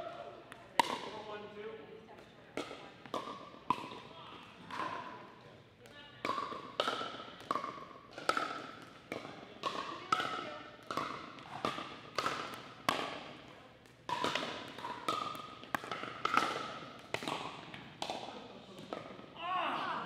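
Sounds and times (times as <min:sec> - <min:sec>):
paddles striking plastic ball: 0:02.2 - 0:05.0, 0:05.8 - 0:19.2.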